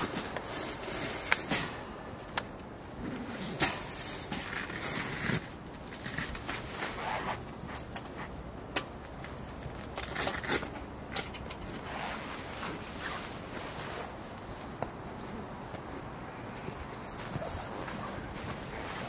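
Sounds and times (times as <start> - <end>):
gear rustling and scraping: 0.0 - 1.6, 3.0 - 19.0.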